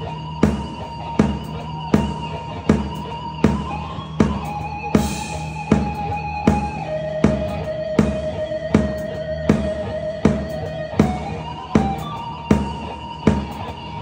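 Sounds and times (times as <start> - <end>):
heavy drum beat: 0.0 - 13.9.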